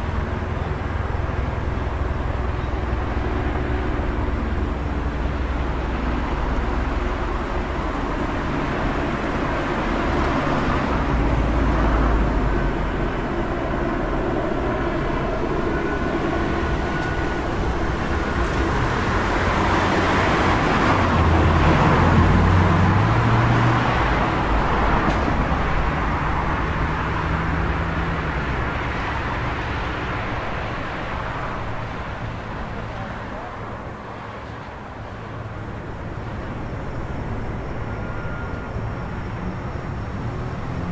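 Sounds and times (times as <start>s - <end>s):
passing cars: 0.0s - 40.9s.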